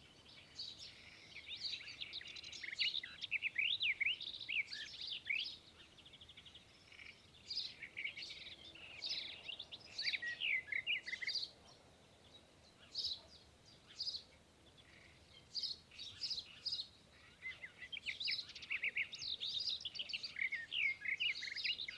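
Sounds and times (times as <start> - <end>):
birds chirping and trilling: 0.0 - 21.9.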